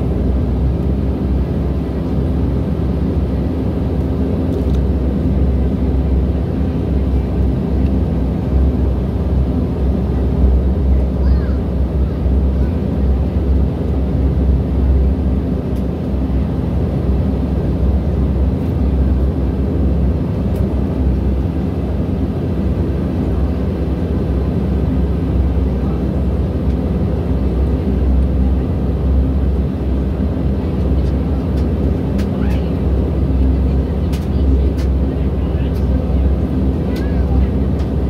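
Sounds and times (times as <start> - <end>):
turboprop engines droning: 0.0 - 38.0.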